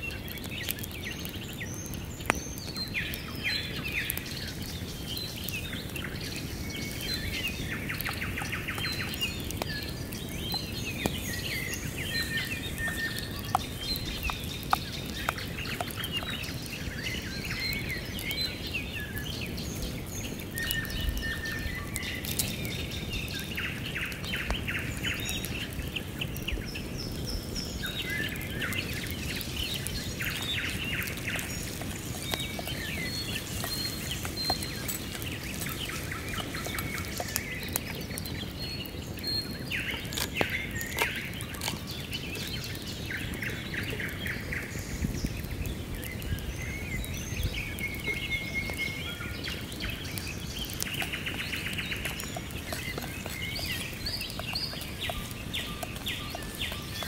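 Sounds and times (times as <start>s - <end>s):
wild birds singing: 0.0s - 57.0s
wood fire crackling: 0.0s - 57.0s.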